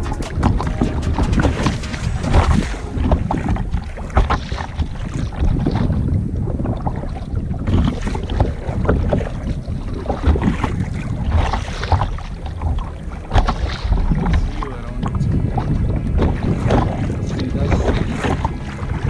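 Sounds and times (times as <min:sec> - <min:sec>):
wind buffeting microphone: 0:00.0 - 0:19.0
water splashing around kayak: 0:02.8 - 0:19.0.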